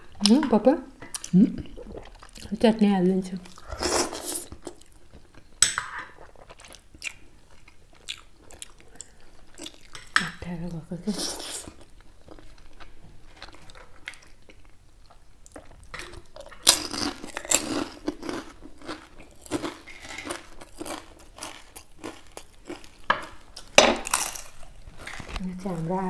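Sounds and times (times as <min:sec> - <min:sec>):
people chewing crunchy food: 0:01.0 - 0:10.2, 0:11.1 - 0:26.0.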